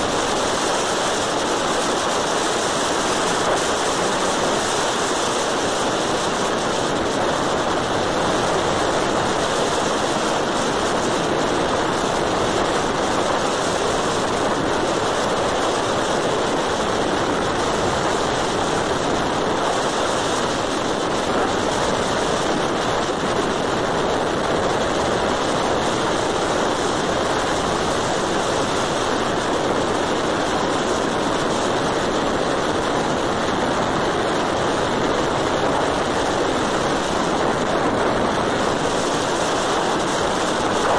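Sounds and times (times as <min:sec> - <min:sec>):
wind and tyre noise: 0:00.0 - 0:40.9.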